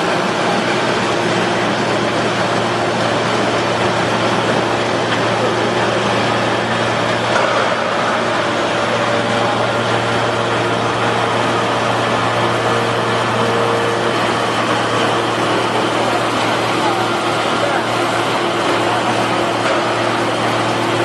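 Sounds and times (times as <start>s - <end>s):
hydraulic press motor hum: 0.0s - 21.0s
loud mechanical noise: 0.0s - 21.0s.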